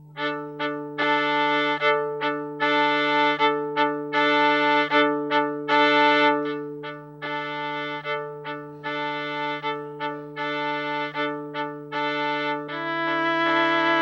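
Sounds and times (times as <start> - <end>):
bowed viola phrase: 0.0 - 14.0
viola held drone: 0.0 - 14.0.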